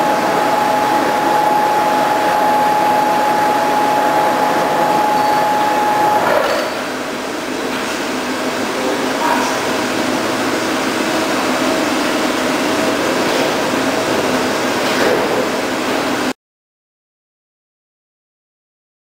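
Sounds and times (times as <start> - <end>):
machine mechanical hum: 0.0 - 16.4
machine whine: 0.0 - 16.4.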